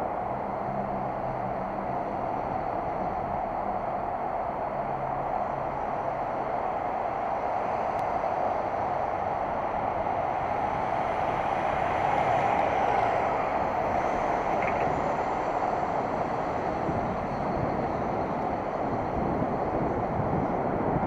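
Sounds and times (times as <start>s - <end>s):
road noise: 0.0s - 21.0s
wind on microphone: 0.0s - 21.0s.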